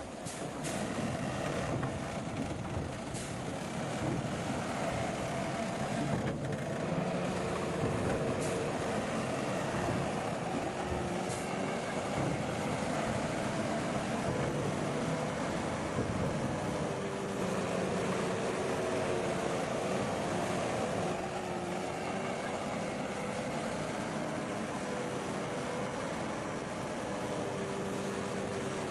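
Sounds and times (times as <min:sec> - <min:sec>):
heavy diesel machinery running: 0:00.0 - 0:28.9.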